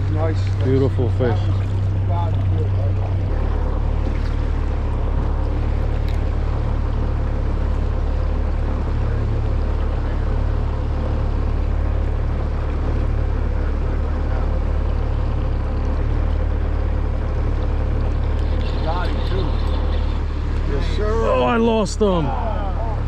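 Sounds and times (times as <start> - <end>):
boat motor rumbling: 0.0 - 23.0.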